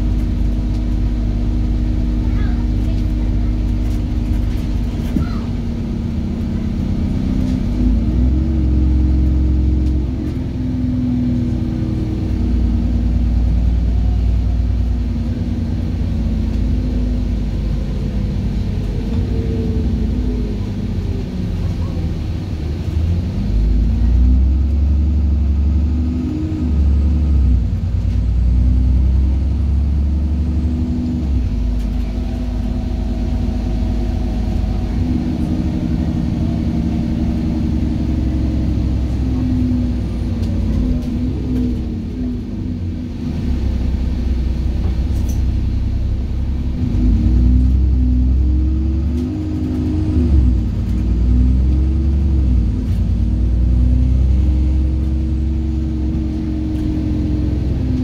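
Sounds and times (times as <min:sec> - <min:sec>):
bus diesel engine rumble: 0:00.0 - 0:58.0
road noise: 0:00.0 - 0:58.0.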